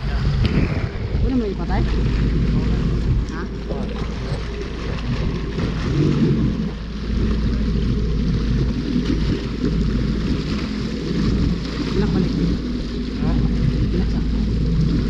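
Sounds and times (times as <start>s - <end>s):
boat engine running: 0.0s - 15.0s
water churning: 0.0s - 15.0s
wind on microphone: 0.0s - 15.0s.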